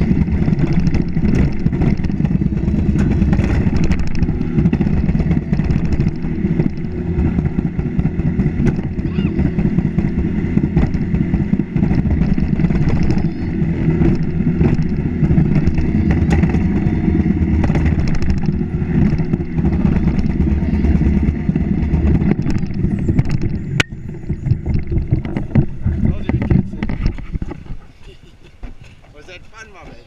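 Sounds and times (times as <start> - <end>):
toboggan sled rumbling on track: 0.0 - 30.0.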